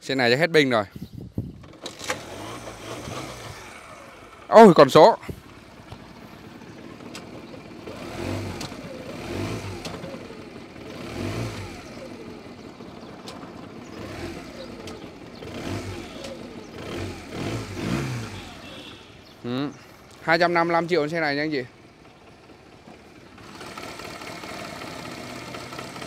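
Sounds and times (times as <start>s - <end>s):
motorcycle engine revving: 1.5s - 26.0s.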